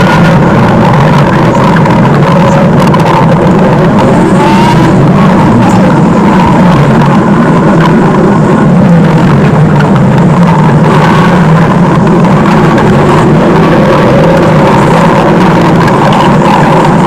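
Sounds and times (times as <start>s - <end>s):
stomach growl: 0.0s - 17.0s.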